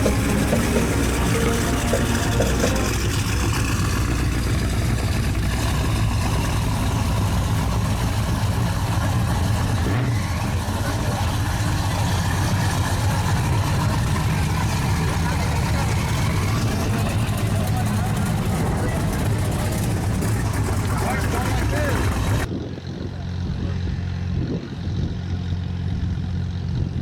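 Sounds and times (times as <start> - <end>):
racing engine idling: 0.0 - 27.0.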